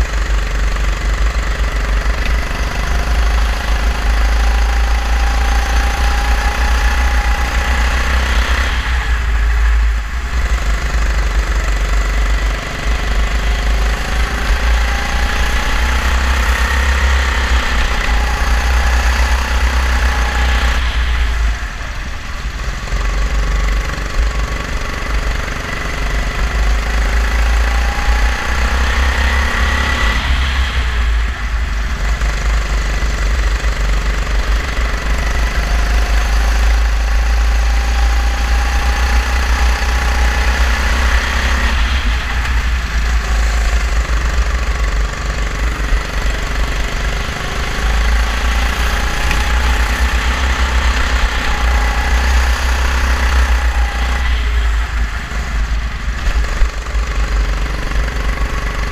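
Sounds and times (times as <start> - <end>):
kart engine revving: 0.0 - 58.9
other kart engines: 0.0 - 58.9.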